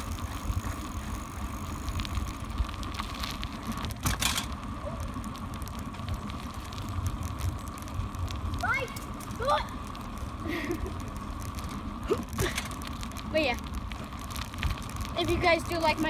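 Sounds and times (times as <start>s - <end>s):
bicycle rattling: 0.0s - 16.0s
tyres on pavement: 0.0s - 16.0s
wind rumbling on microphone: 0.0s - 16.0s.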